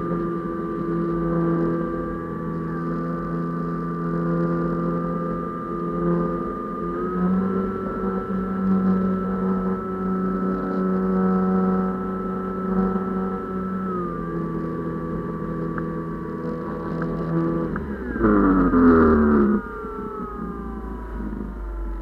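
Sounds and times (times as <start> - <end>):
drone motor and propeller droning: 0.0 - 22.0.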